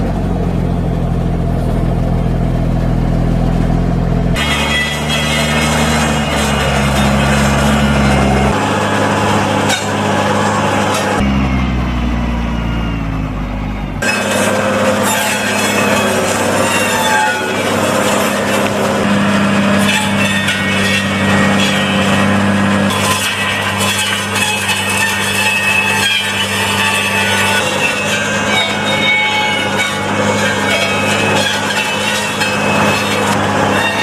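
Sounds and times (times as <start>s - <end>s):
tractor diesel engine running: 0.0s - 34.0s
circular branch saw: 3.6s - 12.8s, 14.0s - 34.0s.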